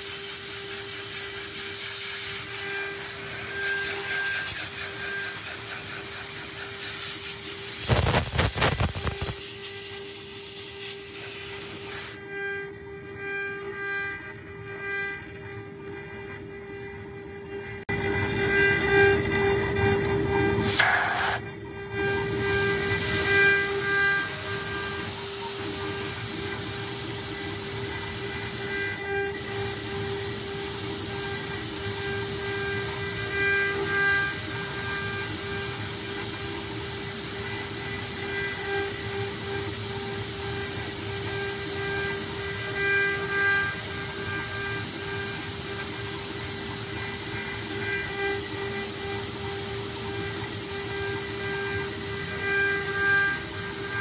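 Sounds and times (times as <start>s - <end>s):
router spindle whining: 2.3s - 10.0s, 11.0s - 54.0s.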